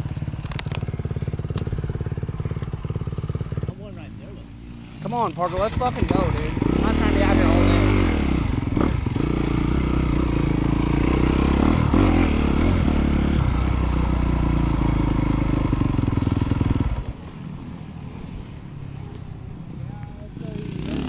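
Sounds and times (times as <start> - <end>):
dirt bike engine running: 0.0 - 19.1, 20.2 - 21.0.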